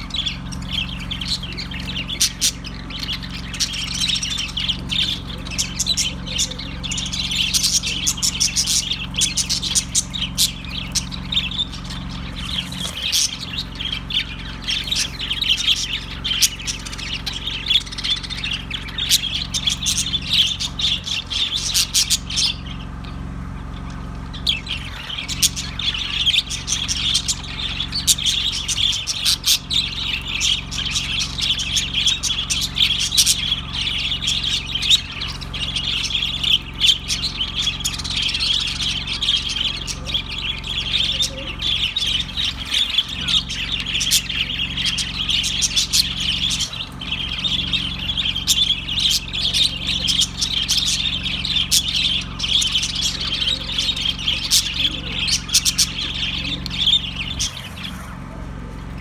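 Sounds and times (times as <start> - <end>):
flock of budgerigars chattering: 0.0 - 59.0.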